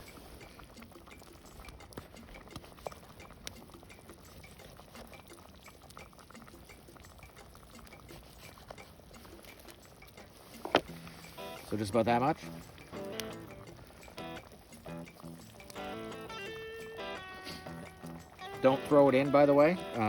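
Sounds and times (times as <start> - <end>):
faint crackling and ticking: 0.0 - 20.0.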